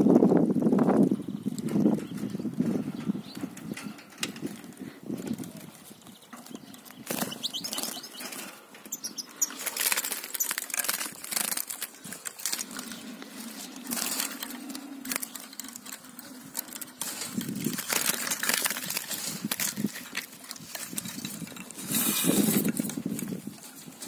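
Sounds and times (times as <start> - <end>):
small bird wings fluttering: 4.4 - 24.0.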